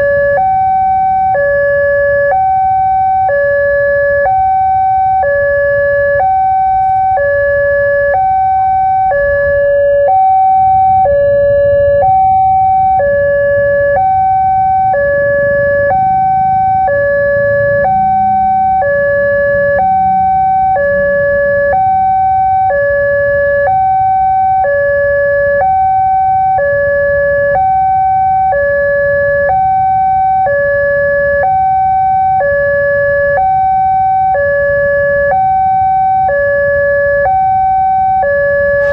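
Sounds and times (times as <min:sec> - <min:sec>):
two-tone level crossing alarm: 0:00.0 - 0:38.9.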